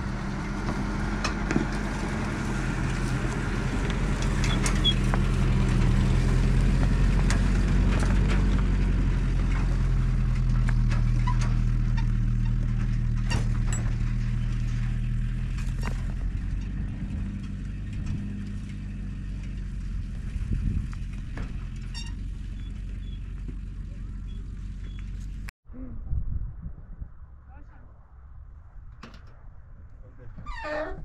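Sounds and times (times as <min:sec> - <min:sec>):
truck engine driving on gravel: 0:00.0 - 0:25.5.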